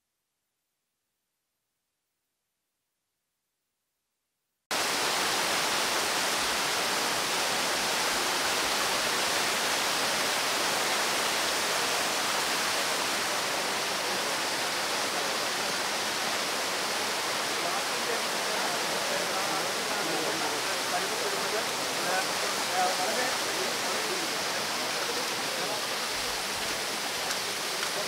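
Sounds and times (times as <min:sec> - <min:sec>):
floodwater rushing over rocks: 0:04.7 - 0:28.0.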